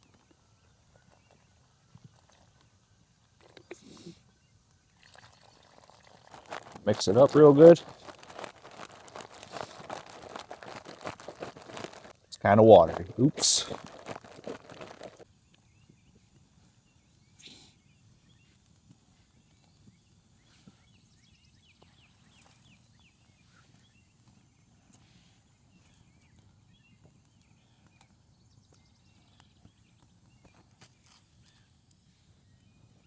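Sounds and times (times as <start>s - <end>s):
distant small birds chirping: 0.0s - 33.0s.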